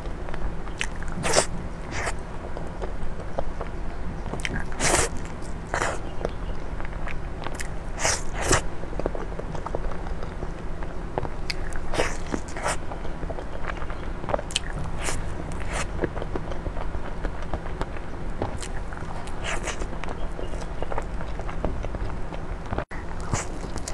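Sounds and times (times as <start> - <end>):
wet chewing of cake: 0.0 - 23.9.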